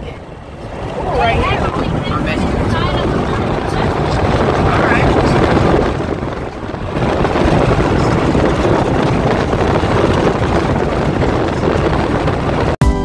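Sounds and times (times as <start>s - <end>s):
car cabin road and wind noise: 0.0s - 12.8s.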